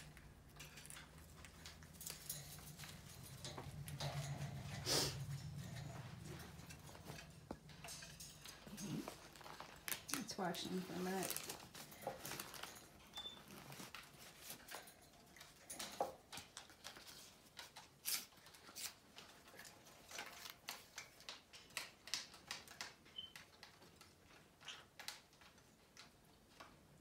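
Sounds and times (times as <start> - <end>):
birds clicking and tapping in cage: 0.0 - 27.0.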